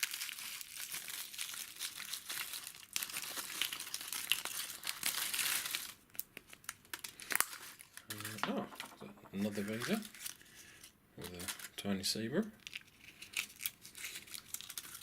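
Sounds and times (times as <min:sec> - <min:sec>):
wrapper crinkling and tearing: 0:00.0 - 0:11.8, 0:12.6 - 0:15.0.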